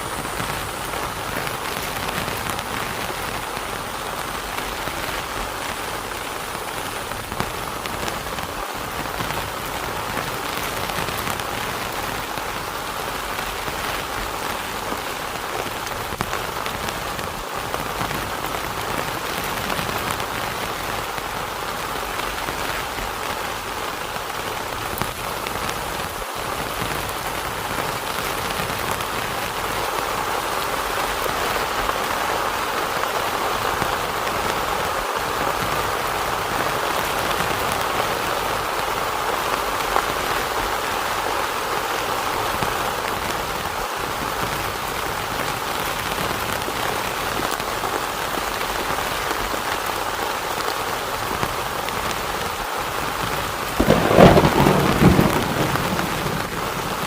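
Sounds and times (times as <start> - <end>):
heavy rain on a tent: 0.0 - 57.0.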